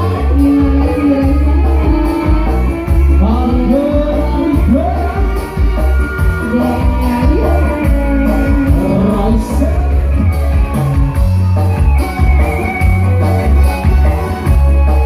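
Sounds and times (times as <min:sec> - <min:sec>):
bass and drum beat: 0:00.0 - 0:15.0
keyboard melody: 0:00.0 - 0:15.0.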